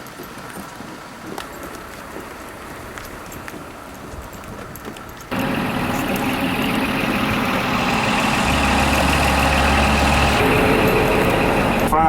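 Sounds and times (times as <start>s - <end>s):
coach engine humming: 1.3s - 12.0s.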